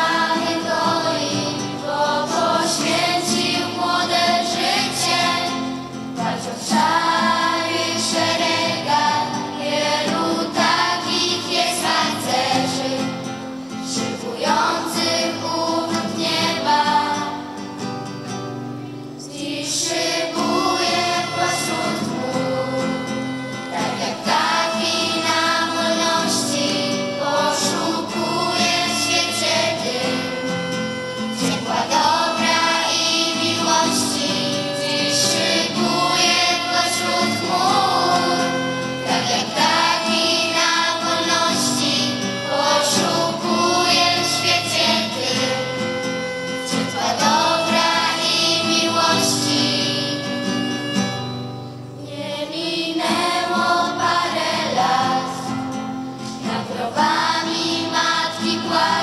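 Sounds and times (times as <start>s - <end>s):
girls choir singing: 0.0s - 18.0s, 18.8s - 51.0s, 52.0s - 59.0s
violin playing: 0.0s - 18.2s, 18.8s - 59.0s.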